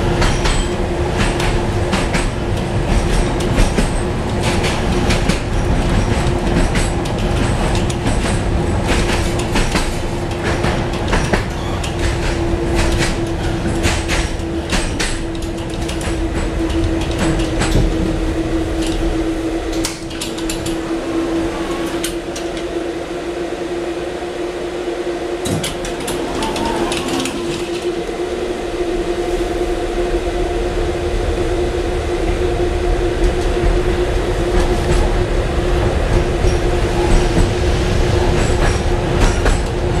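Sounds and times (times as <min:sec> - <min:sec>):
wheels clacking on rails: 0:00.0 - 0:23.4, 0:25.3 - 0:28.9, 0:29.8 - 0:40.0
tram hum: 0:00.0 - 0:40.0.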